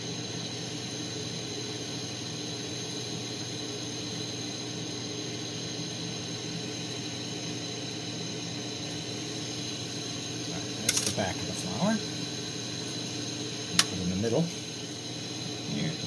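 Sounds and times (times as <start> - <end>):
steady low hum: 0.0 - 16.0
torch flame hissing: 0.0 - 16.0.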